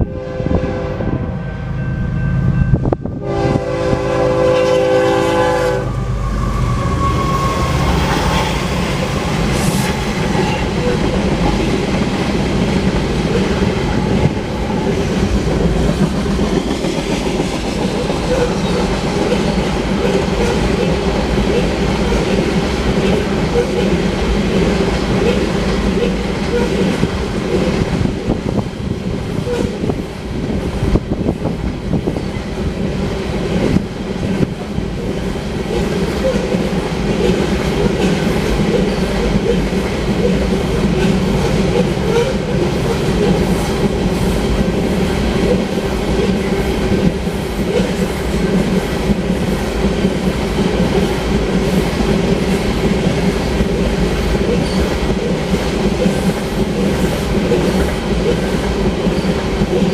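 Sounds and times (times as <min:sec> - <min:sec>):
steel wheels on rails: 0:01.8 - 0:59.9.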